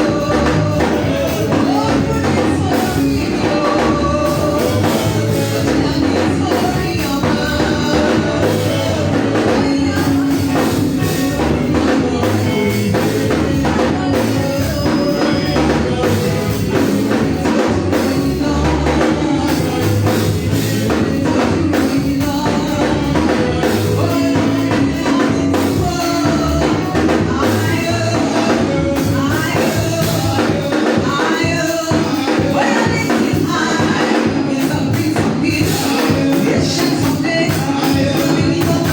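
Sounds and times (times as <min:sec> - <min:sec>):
church band playing: 0:00.0 - 0:38.9
person singing: 0:00.0 - 0:38.9.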